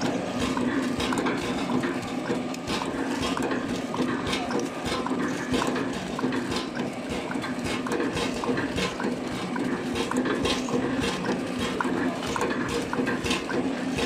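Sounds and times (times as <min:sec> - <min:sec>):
machine clicks and knocks: 0:00.0 - 0:14.0
packaging machine hum: 0:00.0 - 0:14.0.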